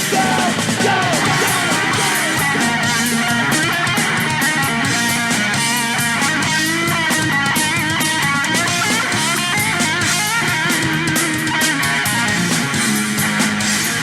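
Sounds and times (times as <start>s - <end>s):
bass guitar: 0.0s - 14.0s
drums: 0.0s - 14.0s
electric guitar lead: 0.0s - 14.0s.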